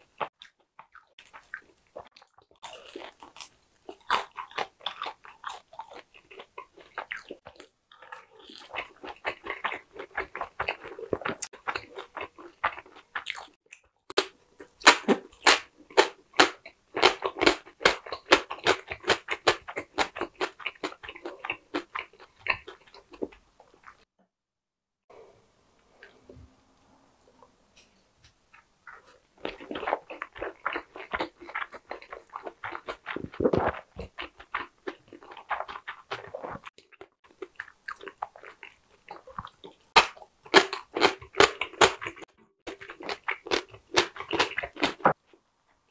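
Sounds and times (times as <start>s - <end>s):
chewing crunchy food: 0.0s - 24.1s, 28.5s - 45.4s.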